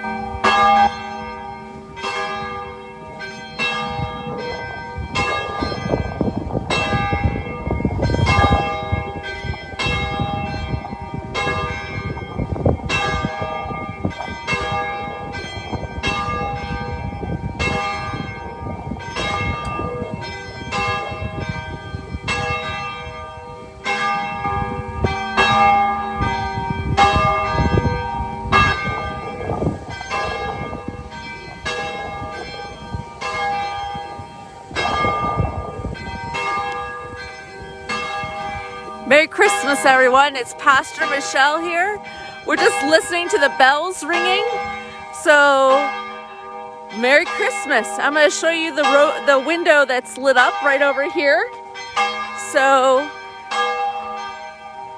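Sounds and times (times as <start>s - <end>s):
church bells ringing: 0.0s - 54.9s.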